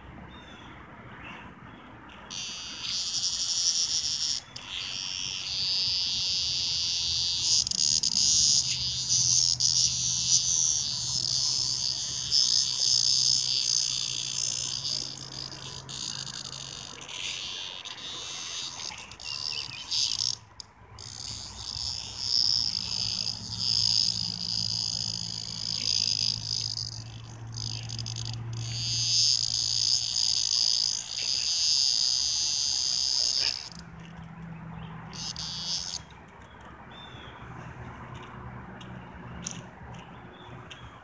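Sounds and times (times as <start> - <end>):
cicada buzzing: 2.3 - 37.4, 38.0 - 41.0.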